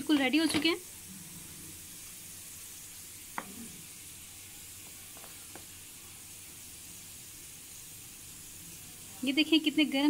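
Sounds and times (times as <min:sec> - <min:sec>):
garlic sizzling in oil: 0:00.0 - 0:10.0.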